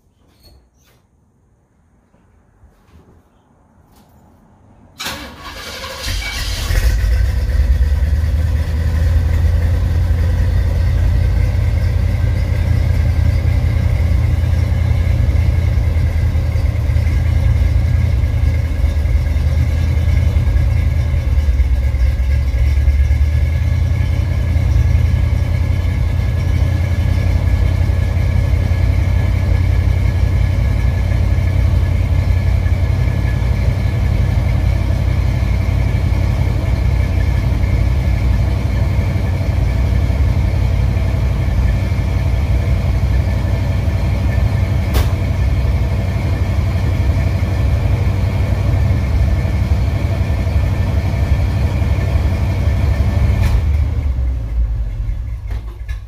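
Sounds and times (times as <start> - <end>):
car engine starting and idling: 4.8 - 56.0.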